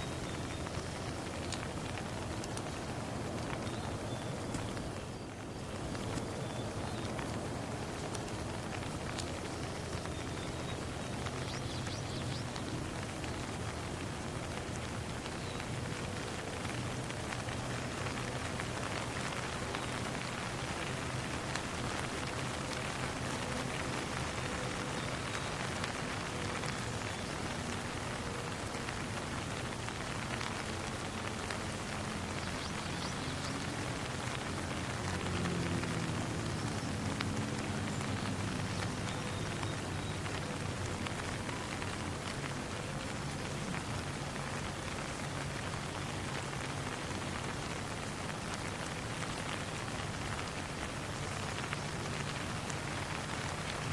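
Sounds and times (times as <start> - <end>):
rain falling on a pond: 0.0 - 53.9.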